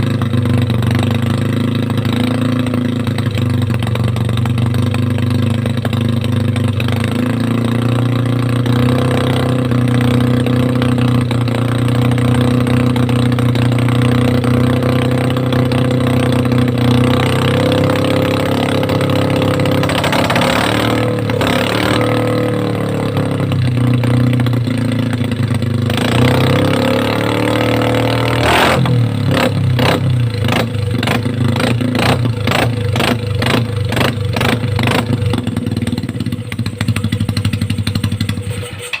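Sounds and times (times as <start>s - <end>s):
scooter engine idling and revving: 0.0s - 39.0s.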